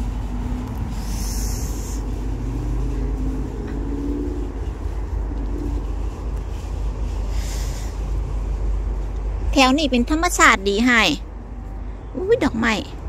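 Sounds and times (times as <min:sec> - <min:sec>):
faint engine hum: 0:00.0 - 0:13.0
motor vehicle running: 0:00.0 - 0:13.0.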